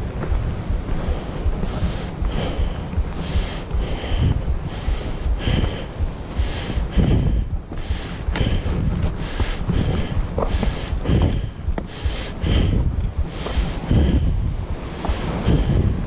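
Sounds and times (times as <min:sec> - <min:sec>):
wind rumble on microphone: 0:00.0 - 0:16.0
heavy breathing: 0:00.1 - 0:16.0.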